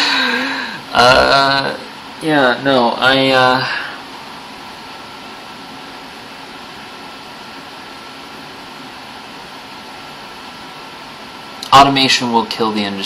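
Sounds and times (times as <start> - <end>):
faint high whine: 0.0 - 13.0
steady hiss: 0.0 - 13.0.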